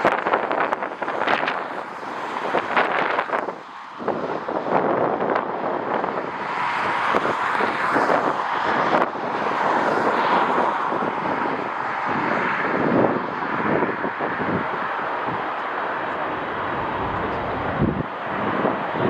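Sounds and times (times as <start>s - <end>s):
jet engines rushing: 0.0s - 19.0s
wind buffeting microphone: 0.0s - 19.0s.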